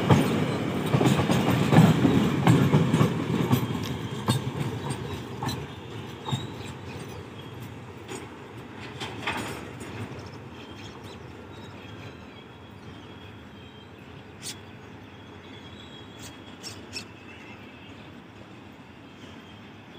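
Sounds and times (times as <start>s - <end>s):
distant train rumbling: 0.0s - 19.9s.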